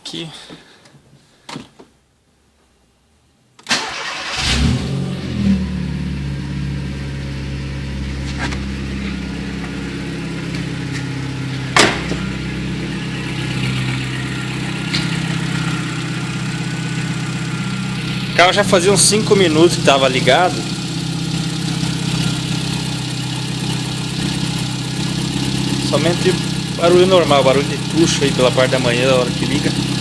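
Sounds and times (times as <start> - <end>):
car engine starting and idling: 3.6 - 30.0.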